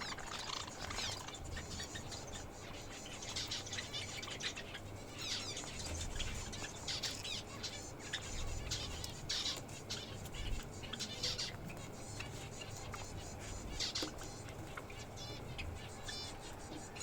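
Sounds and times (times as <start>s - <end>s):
pet birds chirping: 0.0s - 17.0s.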